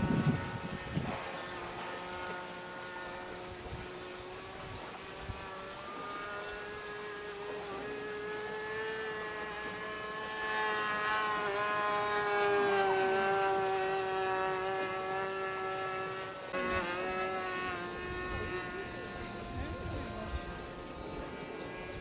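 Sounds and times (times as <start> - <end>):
model aircraft motor drone: 0.0 - 22.0.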